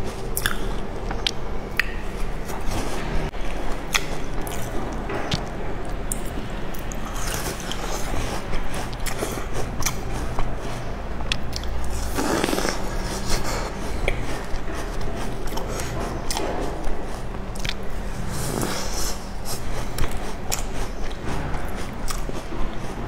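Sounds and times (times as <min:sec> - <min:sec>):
biting and chewing biscuit: 0:00.0 - 0:23.0.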